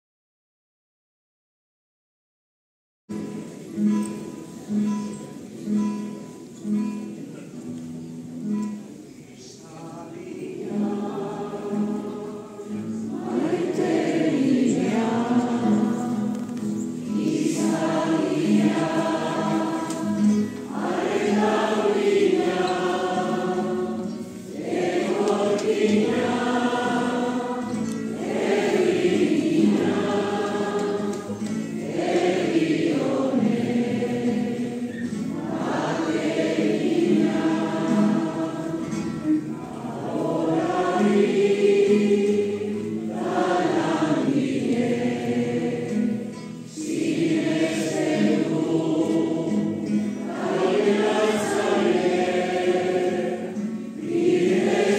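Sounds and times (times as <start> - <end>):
congregation singing a hymn: 8.7 - 54.9.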